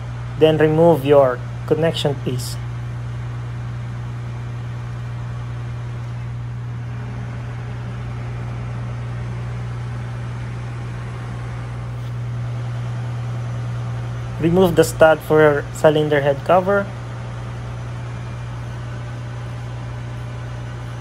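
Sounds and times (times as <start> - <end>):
engine room machinery drone: 0.0 - 21.0.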